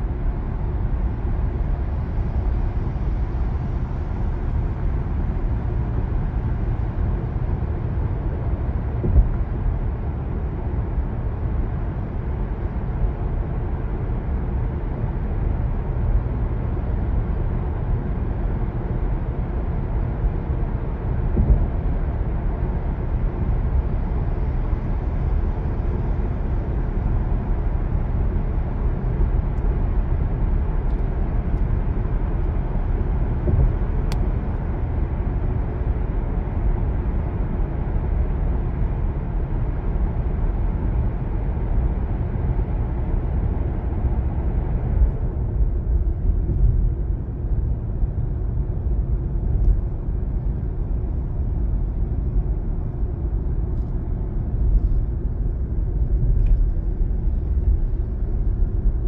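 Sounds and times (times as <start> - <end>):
road and tyre noise: 0.0 - 59.0.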